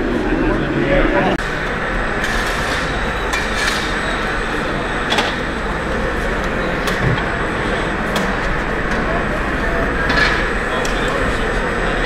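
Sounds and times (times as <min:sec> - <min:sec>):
busy exhibition hall din: 0:00.0 - 0:12.0.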